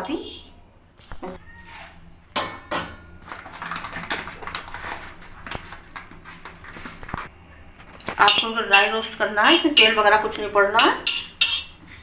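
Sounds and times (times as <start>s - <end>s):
gas burner hum: 2.0s - 12.0s.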